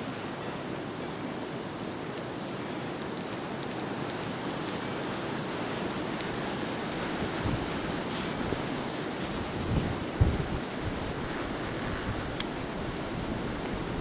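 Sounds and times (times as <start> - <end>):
blizzard wind rushing: 0.0 - 14.0.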